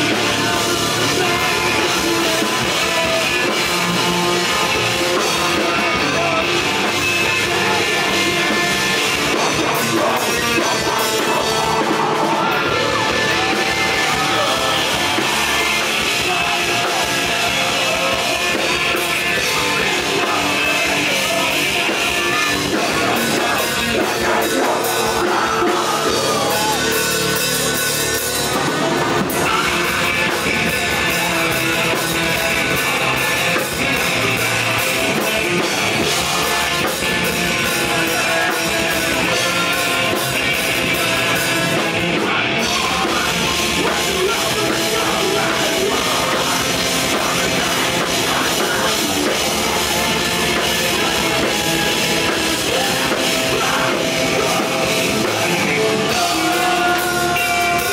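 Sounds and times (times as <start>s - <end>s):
bass guitar: 0.0s - 57.9s
drum kit: 0.0s - 57.9s
electric guitar: 0.0s - 57.9s
person singing: 0.0s - 57.9s.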